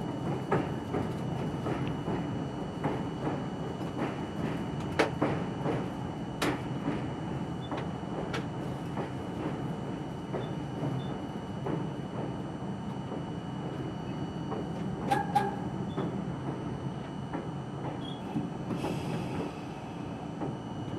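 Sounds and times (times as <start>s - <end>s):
subway train rumble: 0.0s - 20.9s.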